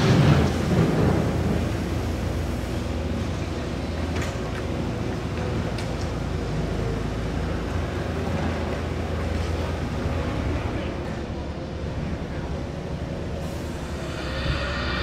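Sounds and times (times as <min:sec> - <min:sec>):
low mechanical rumble: 0:00.1 - 0:15.0.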